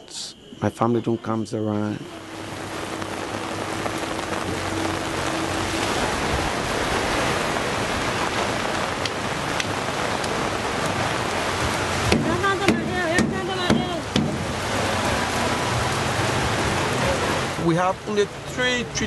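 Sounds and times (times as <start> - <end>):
rain on hard surfaces: 0.0 - 19.0.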